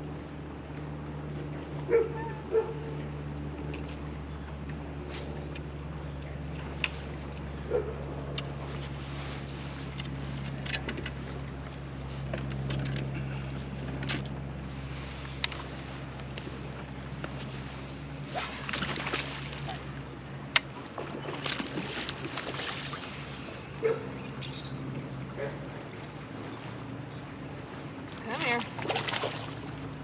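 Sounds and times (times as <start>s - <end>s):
trolling motor hum: 0.0s - 30.0s
water lapping at hull: 0.0s - 30.0s.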